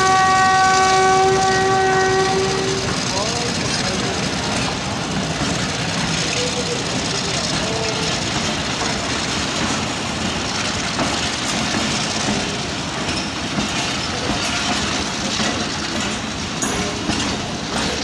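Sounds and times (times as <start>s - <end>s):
train wheels rumbling on rails: 0.0s - 18.0s
wheels clacking over rail joints: 0.0s - 18.0s.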